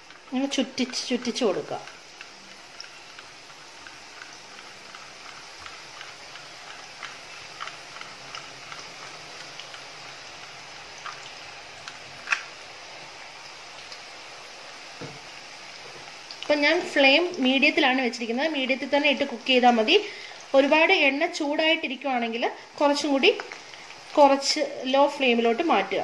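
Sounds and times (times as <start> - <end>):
dough deep-frying in hot oil: 0.0 - 26.0
oil popping and crackling: 0.0 - 26.0.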